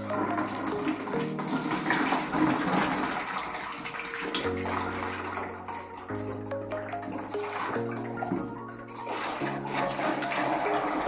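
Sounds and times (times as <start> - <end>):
liquid pouring into plastic bucket: 0.0 - 11.0.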